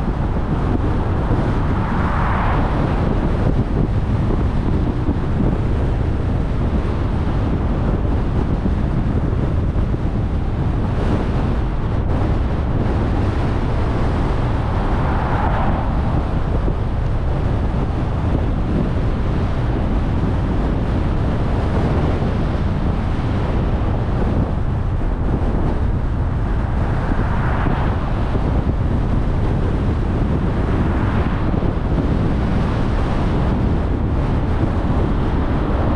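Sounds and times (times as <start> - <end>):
car road noise: 0.0 - 35.9
wind buffeting microphone: 0.0 - 35.9.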